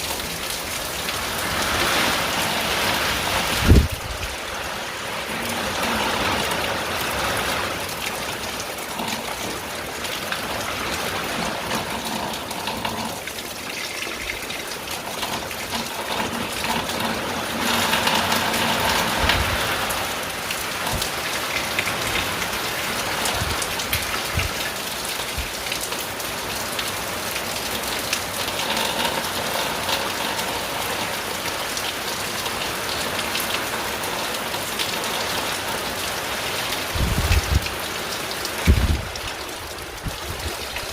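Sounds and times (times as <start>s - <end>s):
rain on a tin roof: 0.0s - 40.9s.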